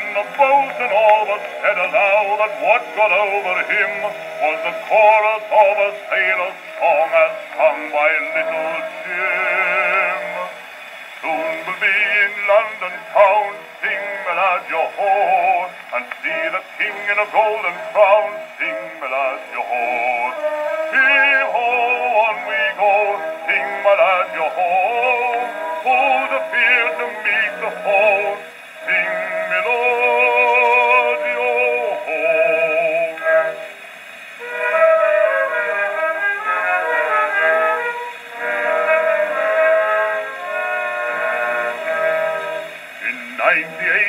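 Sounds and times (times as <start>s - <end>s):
man singing on gramophone record: 0.0s - 44.0s.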